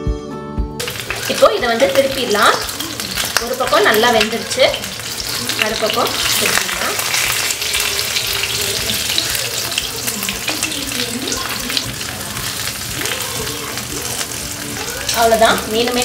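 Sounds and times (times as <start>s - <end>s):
fish frying in oil: 0.8s - 16.0s
oil crackling: 0.8s - 16.0s.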